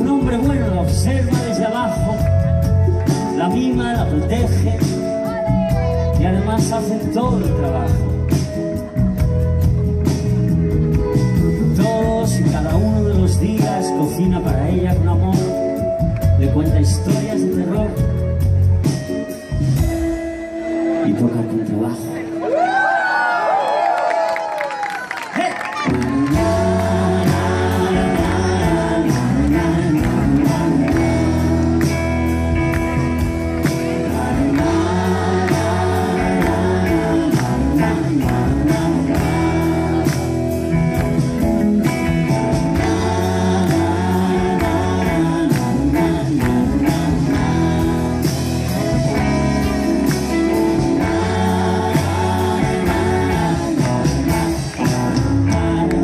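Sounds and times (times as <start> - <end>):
live rock band playing: 0.0 - 23.1, 24.8 - 56.0.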